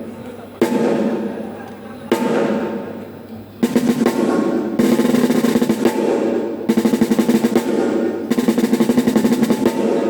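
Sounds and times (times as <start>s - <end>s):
fast drum rolls: 0.0s - 10.0s
drum ringing: 0.6s - 10.0s.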